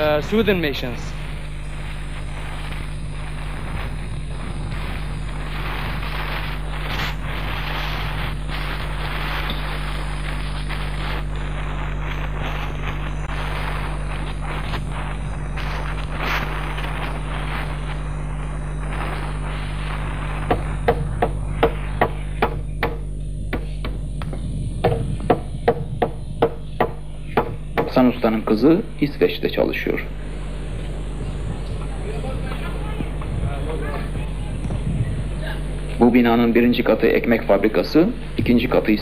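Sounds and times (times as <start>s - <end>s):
low hum: 0.0s - 39.0s
steady hiss: 0.0s - 39.0s.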